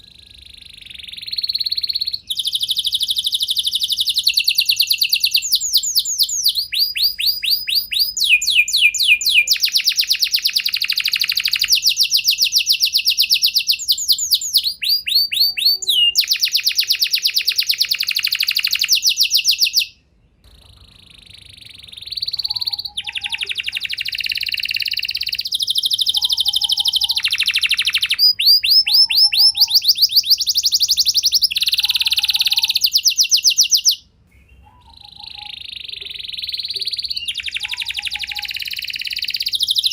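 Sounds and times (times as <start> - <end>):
canary singing rolled trills: 0.0 - 39.9.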